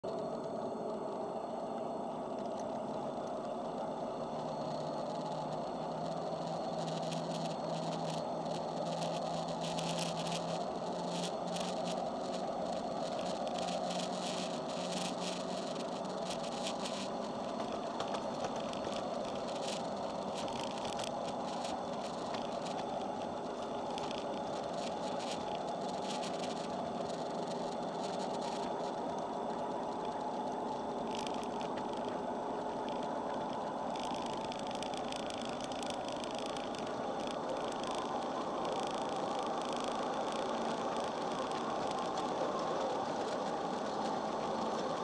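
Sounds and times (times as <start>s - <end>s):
model locomotive drive whine: 0.0s - 45.0s
wheels clicking over rails: 4.3s - 45.0s.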